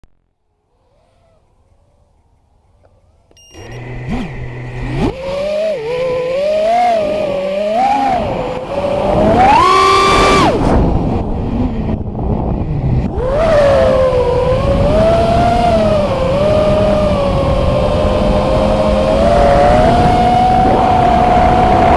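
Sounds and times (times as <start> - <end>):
quadcopter motors whining: 0.6 - 21.9.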